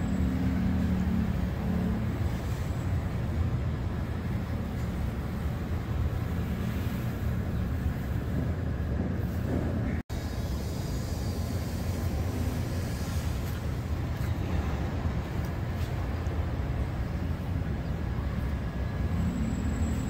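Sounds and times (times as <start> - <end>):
city ambience rumble: 0.0 - 20.0.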